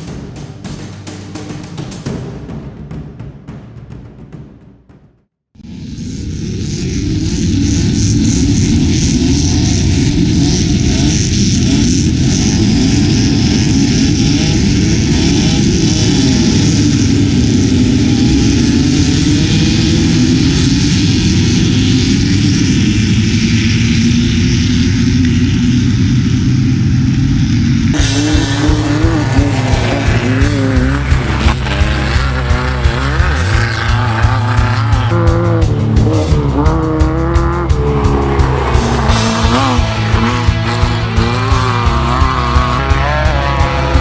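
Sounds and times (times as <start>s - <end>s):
race vehicle engines revving: 5.6s - 44.0s.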